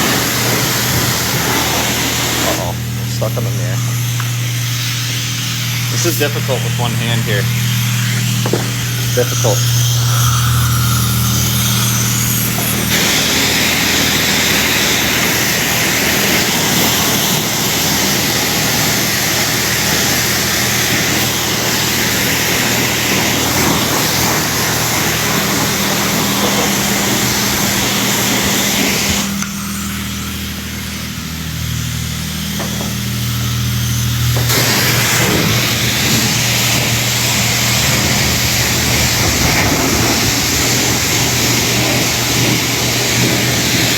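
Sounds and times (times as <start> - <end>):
pressure washer spraying: 0.0 - 43.9
steady low hum: 0.0 - 43.9.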